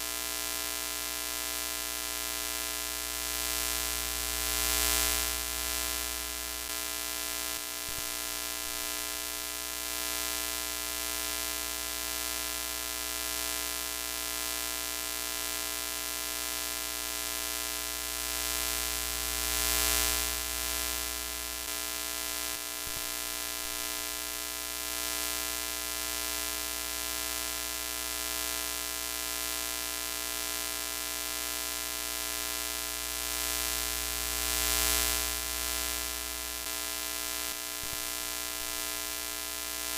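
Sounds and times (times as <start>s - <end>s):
electrical buzz with hum: 0.0s - 39.9s.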